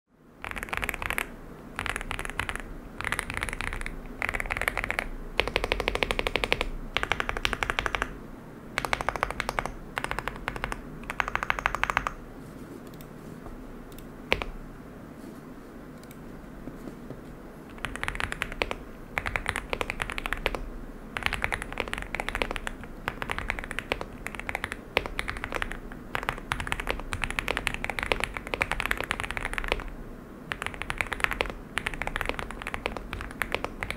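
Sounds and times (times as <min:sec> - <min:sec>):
mechanical keyboard typing clicks: 0:00.4 - 0:08.1, 0:08.8 - 0:12.2, 0:13.9 - 0:14.6, 0:17.7 - 0:29.9, 0:30.5 - 0:33.9.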